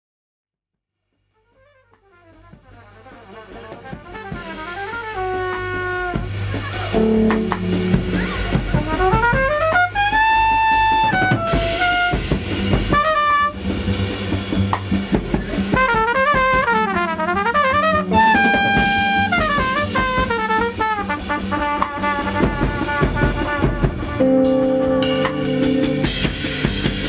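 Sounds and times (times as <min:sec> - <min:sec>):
drum kit: 0:01.1 - 0:27.0
trumpet melody: 0:01.3 - 0:14.1, 0:15.5 - 0:27.0
bass: 0:01.6 - 0:27.0.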